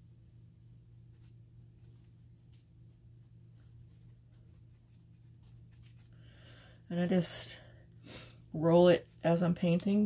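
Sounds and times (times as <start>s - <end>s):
paintbrush scratching on wood: 0.0s - 7.5s, 8.4s - 10.0s
steady low hum: 0.0s - 10.0s.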